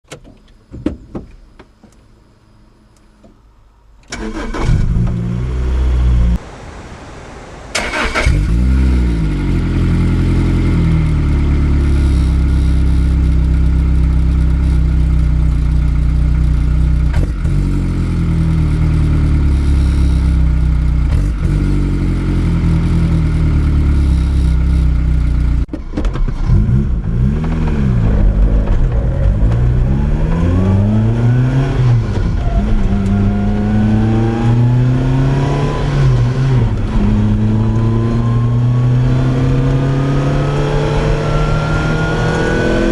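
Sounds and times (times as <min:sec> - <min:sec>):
car engine with loud exhaust revving: 0:04.1 - 0:06.4, 0:07.7 - 0:42.9.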